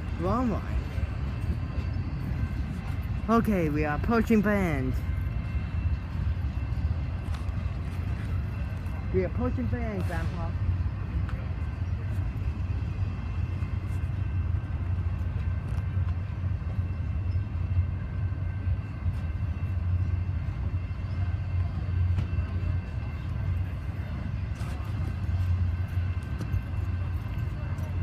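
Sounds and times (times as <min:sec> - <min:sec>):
freight train rumbling on rails: 0:00.0 - 0:28.0.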